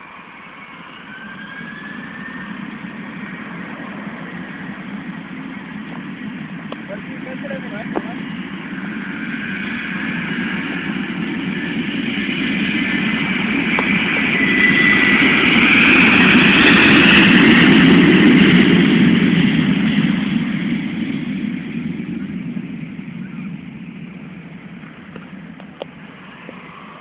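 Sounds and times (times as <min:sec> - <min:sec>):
airplane engines at takeoff: 0:00.0 - 0:27.0.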